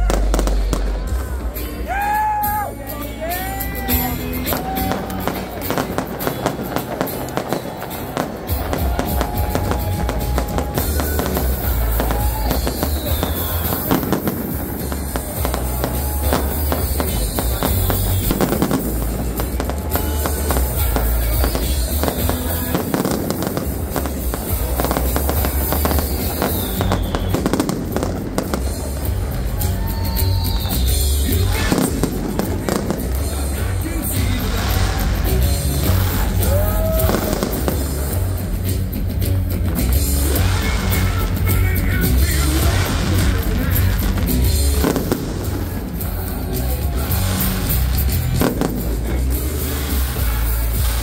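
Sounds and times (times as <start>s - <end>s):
fireworks bursting and crackling: 0.0s - 51.0s
loud music with heavy bass: 0.0s - 51.0s.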